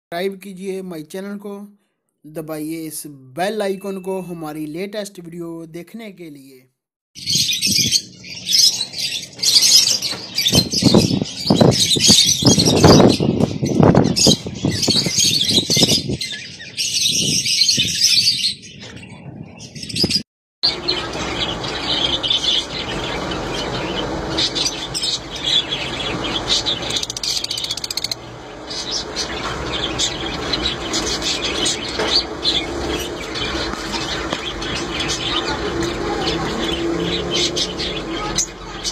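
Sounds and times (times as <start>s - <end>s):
budgerigars chattering and chirping: 7.2s - 38.9s.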